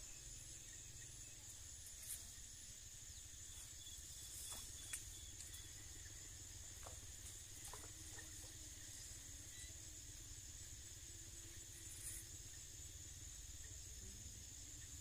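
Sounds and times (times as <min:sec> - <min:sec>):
faint insect drone: 0:00.0 - 0:15.0.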